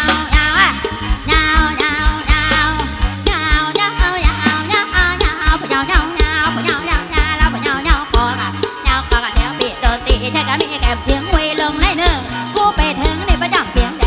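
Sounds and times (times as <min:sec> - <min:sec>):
electric band playing: 0:00.0 - 0:14.0
person singing with vibrato: 0:00.0 - 0:14.0.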